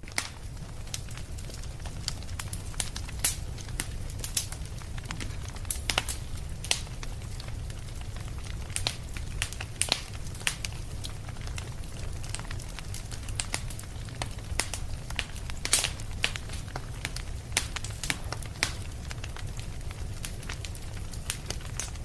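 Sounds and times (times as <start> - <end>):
fire crackling and popping: 0.0 - 22.0
low rumble of fire: 0.0 - 22.0.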